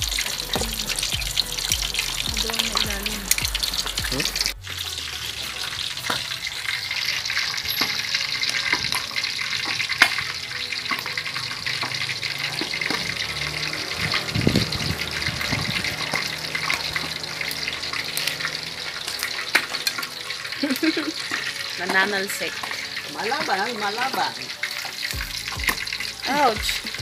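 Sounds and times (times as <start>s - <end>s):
meat sizzling in hot oil: 0.0s - 27.0s
oil crackling and spattering: 0.0s - 27.0s
oil popping: 0.0s - 27.0s.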